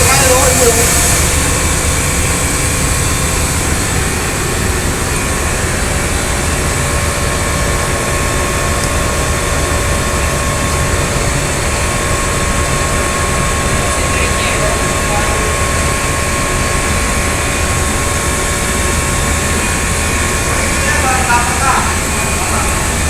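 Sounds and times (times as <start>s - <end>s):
heat pump mechanical whir: 0.0s - 23.0s.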